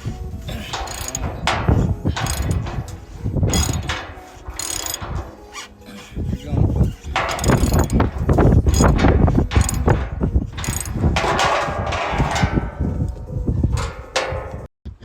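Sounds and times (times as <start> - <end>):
metal hardware clattering: 0.0 - 14.7.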